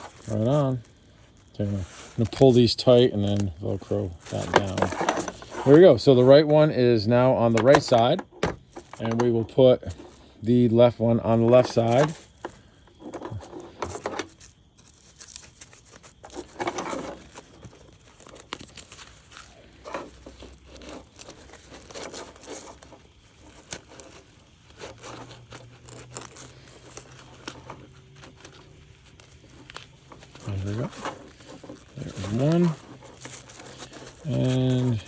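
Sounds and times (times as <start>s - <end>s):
stiff gear rustling and crinkling: 0.0s - 35.0s.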